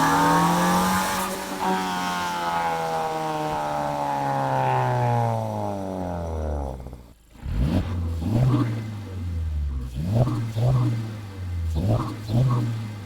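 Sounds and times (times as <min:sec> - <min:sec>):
car engine revs dropping: 0:00.0 - 0:13.0.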